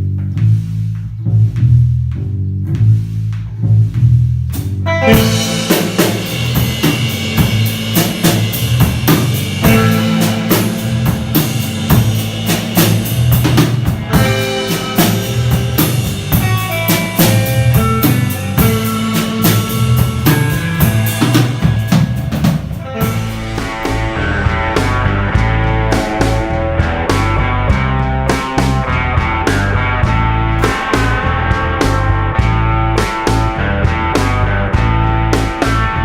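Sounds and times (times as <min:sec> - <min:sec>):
drum kit: 0:00.0 - 0:36.0
surf-rock band playing: 0:04.8 - 0:36.0.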